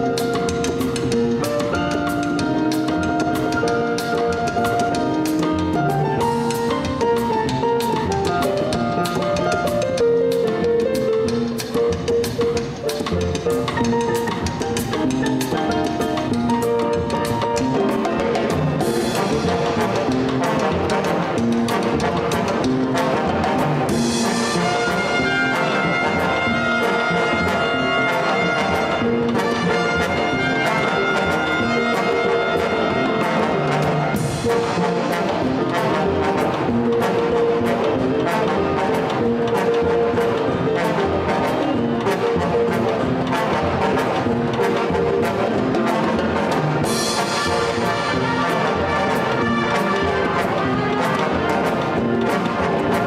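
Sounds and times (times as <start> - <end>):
big band brass and saxophones: 0.0 - 53.0
drum and cymbal beat: 0.0 - 53.0.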